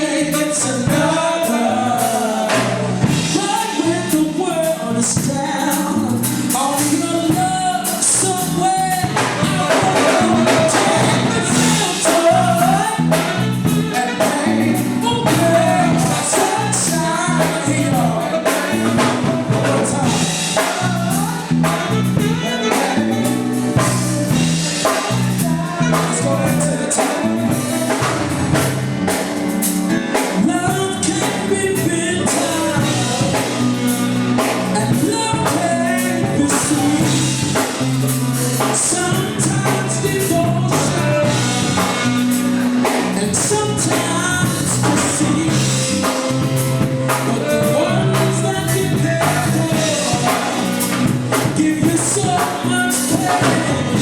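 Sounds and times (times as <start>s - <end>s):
person singing: 0.0s - 29.2s, 30.1s - 54.0s
live band playing: 0.0s - 54.0s.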